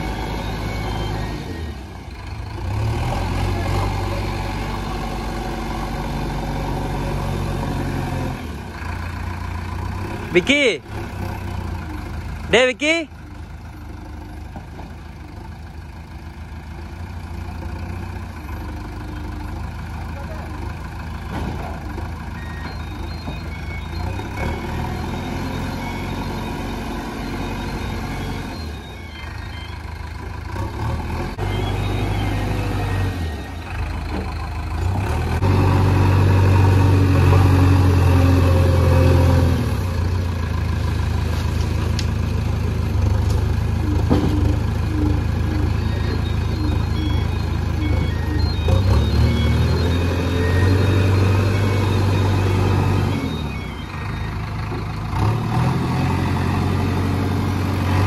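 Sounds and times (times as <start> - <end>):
diesel engine working: 0.0 - 58.0.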